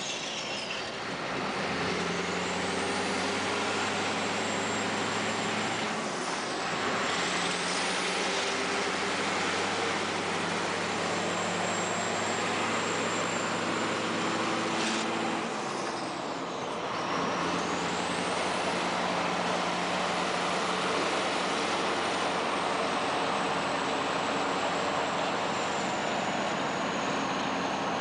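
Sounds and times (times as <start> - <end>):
road noise: 0.0 - 28.0
truck engine drone: 0.0 - 28.0.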